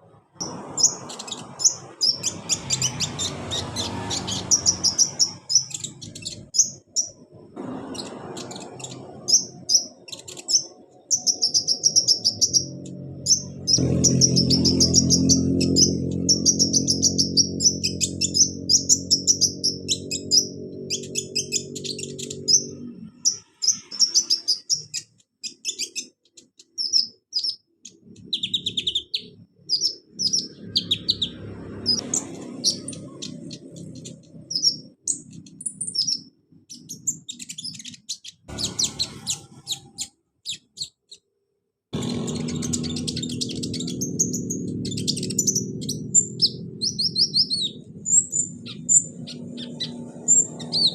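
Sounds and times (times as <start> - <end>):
sunbird chirping and twittering: 0.0 - 41.2, 42.0 - 50.9.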